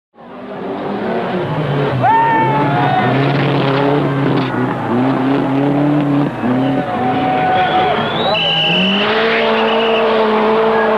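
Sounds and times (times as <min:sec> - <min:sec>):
rally car engine running hard: 0:00.2 - 0:10.9.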